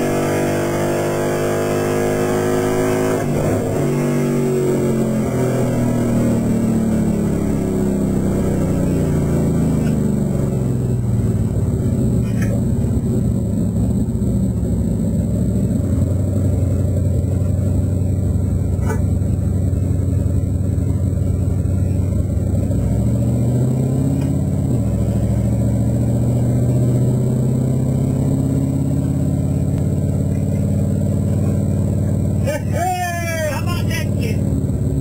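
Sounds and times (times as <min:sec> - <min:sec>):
race car engine running: 0:00.0 - 0:35.0.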